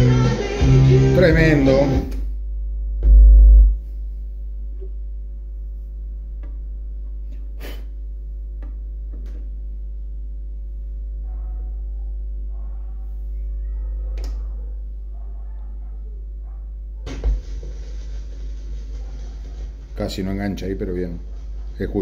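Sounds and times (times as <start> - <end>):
electrical hum from speakers: 0.0 - 22.0.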